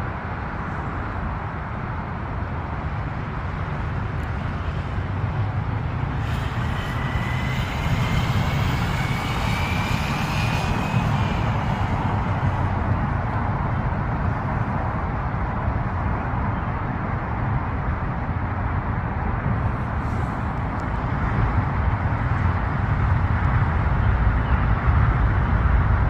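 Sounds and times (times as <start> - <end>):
vehicle and road noise: 0.0 - 26.0.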